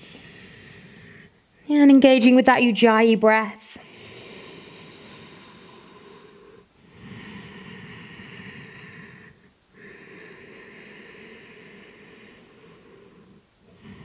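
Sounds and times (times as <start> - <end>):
slow audible breathing: 0.0 - 1.6, 3.7 - 14.0.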